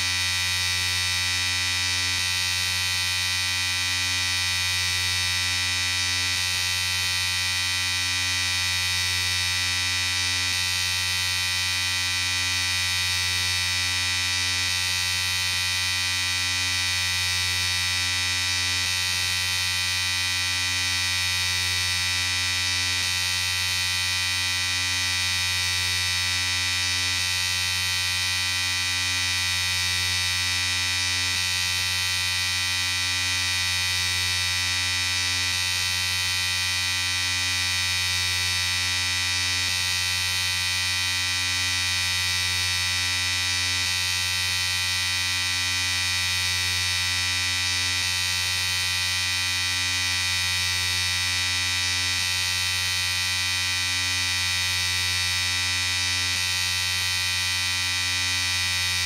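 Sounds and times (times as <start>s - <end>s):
electric shaver buzzing: 0.0s - 59.0s.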